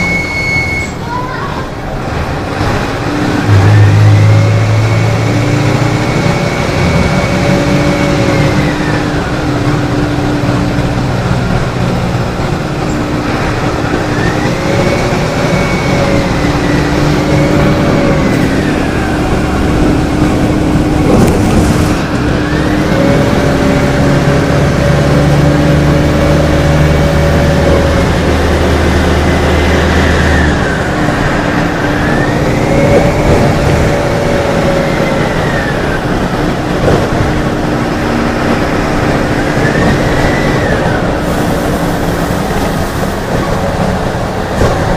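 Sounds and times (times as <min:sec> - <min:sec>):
diesel bus engine whining: 0:00.0 - 0:44.9.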